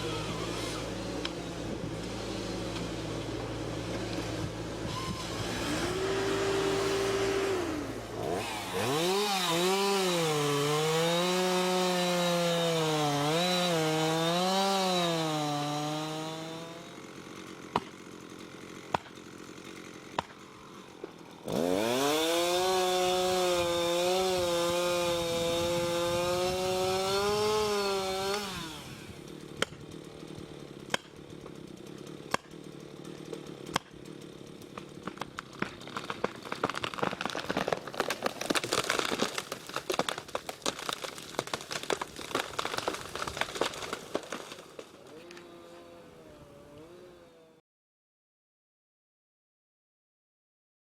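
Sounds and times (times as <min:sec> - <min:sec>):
chainsaw cutting wood: 0:00.0 - 0:47.6.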